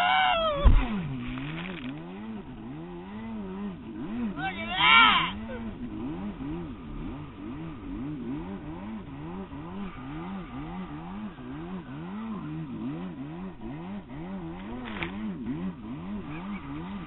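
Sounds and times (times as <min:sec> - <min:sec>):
jet ski engine revving: 0:00.0 - 0:17.0.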